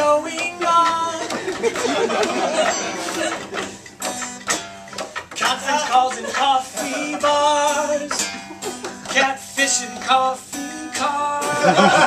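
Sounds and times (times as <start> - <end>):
man singing: 0.0 - 3.4, 5.3 - 12.0
acoustic guitar strumming: 0.0 - 12.0.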